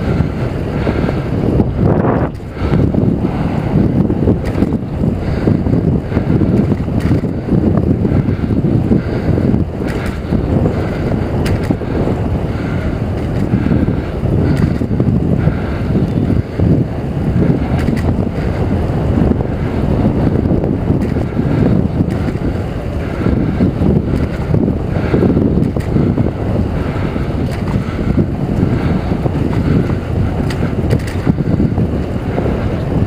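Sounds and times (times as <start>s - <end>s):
faint bike clicks: 0.0s - 33.0s
wind buffeting microphone: 0.0s - 33.0s.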